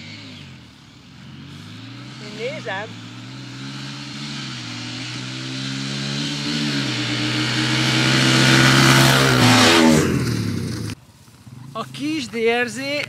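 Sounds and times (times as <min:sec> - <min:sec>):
dirt bikes accelerating: 0:00.0 - 0:13.0.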